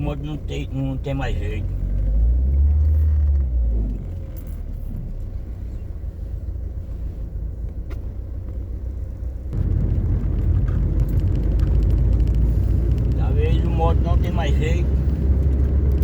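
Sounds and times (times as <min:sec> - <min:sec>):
car rumbling: 0:00.0 - 0:16.0.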